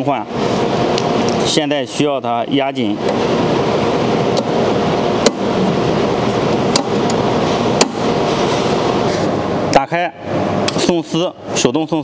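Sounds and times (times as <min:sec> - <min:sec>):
steady mechanical noise: 0:00.0 - 0:12.0.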